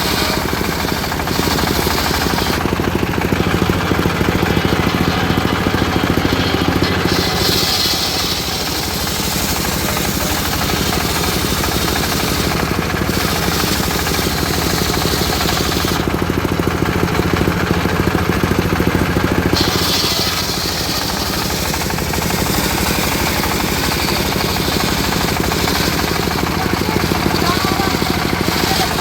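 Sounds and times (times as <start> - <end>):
saw blade hissing: 0.0 - 16.2, 19.4 - 29.0
sawmill engine knocking: 0.0 - 29.0.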